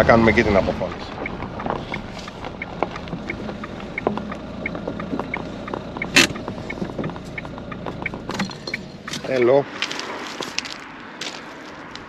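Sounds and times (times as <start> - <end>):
turn signal ticking: 0.0 - 12.0.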